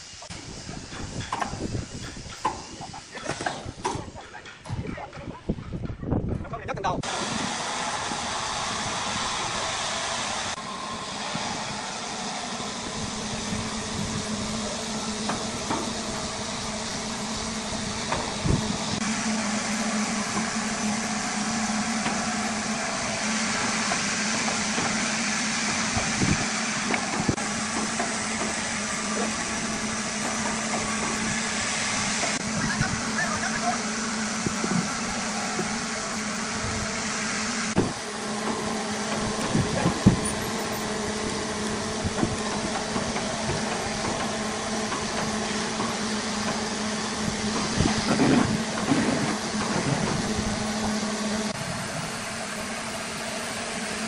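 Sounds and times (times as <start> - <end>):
engine humming: 6.9 - 54.0.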